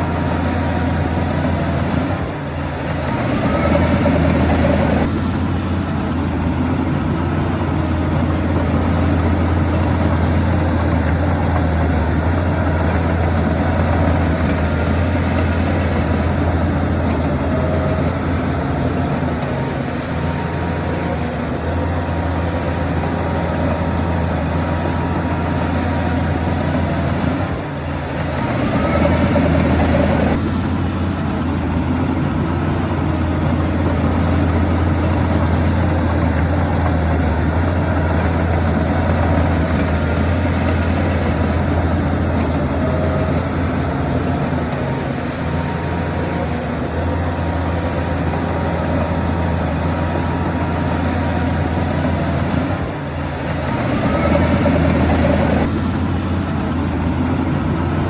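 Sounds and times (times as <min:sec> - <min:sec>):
diesel earthmoving machinery drone: 0:00.0 - 0:58.0
machine whining: 0:00.0 - 0:58.0.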